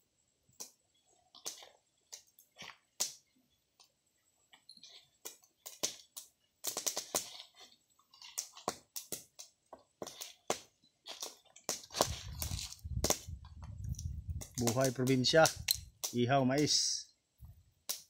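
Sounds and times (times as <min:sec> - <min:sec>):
fire crackling and popping: 0:00.5 - 0:18.0.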